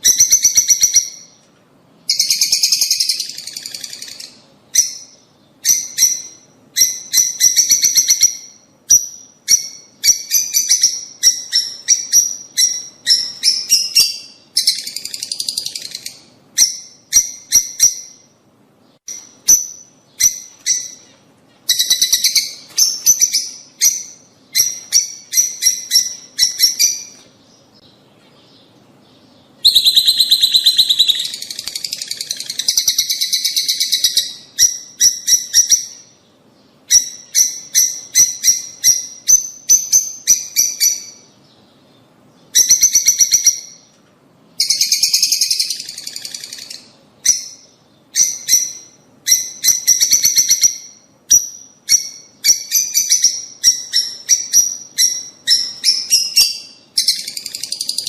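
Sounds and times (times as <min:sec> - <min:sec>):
lovebirds chirping shrilly: 0:02.1 - 0:18.3, 0:19.0 - 0:43.9, 0:44.6 - 0:58.0.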